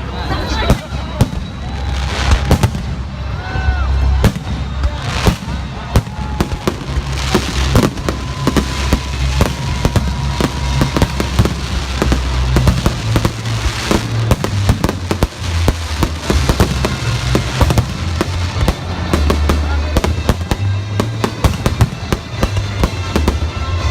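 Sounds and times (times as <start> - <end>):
bass-heavy music: 0.0 - 23.9
fireworks bangs and crackles: 0.0 - 23.9.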